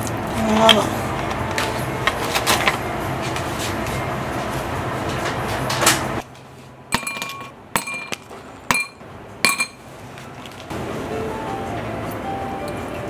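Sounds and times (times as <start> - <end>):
noisy hiss with low hum: 0.0 - 13.0.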